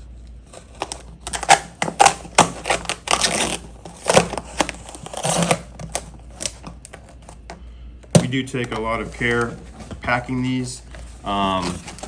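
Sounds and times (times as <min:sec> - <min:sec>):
cardboard scraping and rustling: 0:00.0 - 0:07.5, 0:08.3 - 0:12.0.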